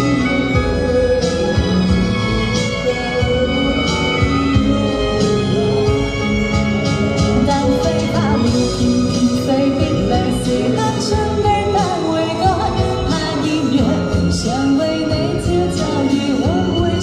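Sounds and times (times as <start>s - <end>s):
backing music: 0.0s - 17.0s
woman singing into microphone: 0.0s - 17.0s.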